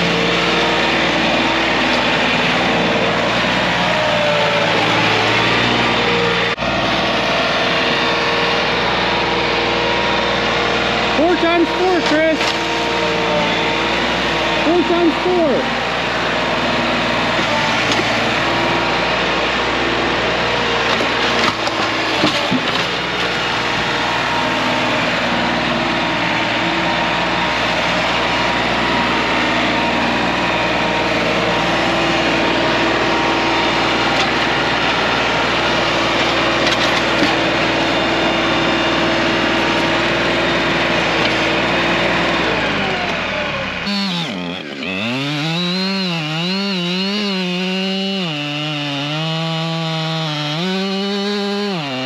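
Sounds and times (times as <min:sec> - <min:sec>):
chainsaw cutting logs: 0:00.0 - 0:52.0.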